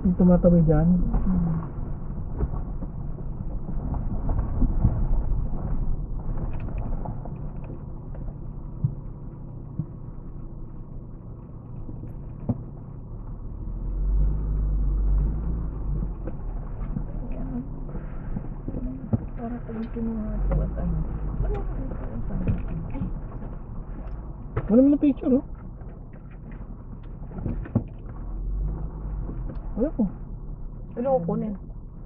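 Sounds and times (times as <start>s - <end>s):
car driving on gravel: 0.0s - 32.0s
heavier low rumble: 0.0s - 32.0s.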